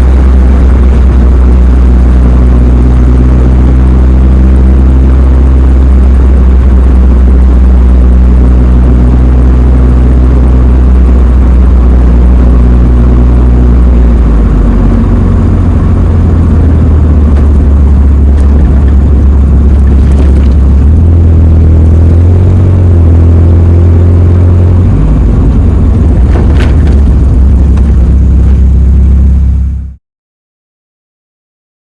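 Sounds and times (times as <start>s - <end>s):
car engine droning: 0.0s - 30.0s.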